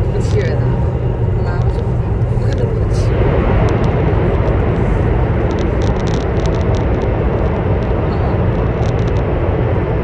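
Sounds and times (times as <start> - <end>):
train interior rumble and hiss: 0.0 - 10.0.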